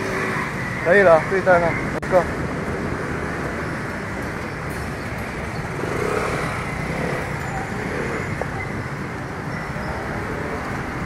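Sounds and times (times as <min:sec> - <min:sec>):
road traffic: 0:00.0 - 0:11.0
strong wind: 0:00.0 - 0:11.0.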